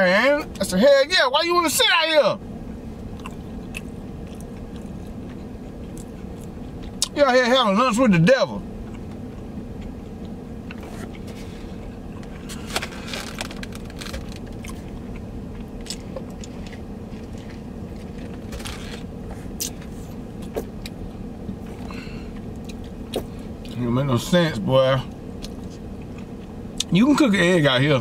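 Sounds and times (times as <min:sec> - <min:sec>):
vehicle idling hum: 0:00.0 - 0:28.0.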